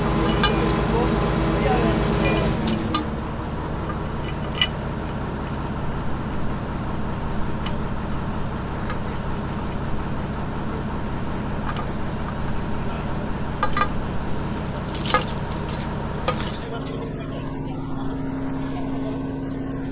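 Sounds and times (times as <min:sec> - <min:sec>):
vehicle engine idling: 0:00.0 - 0:19.9.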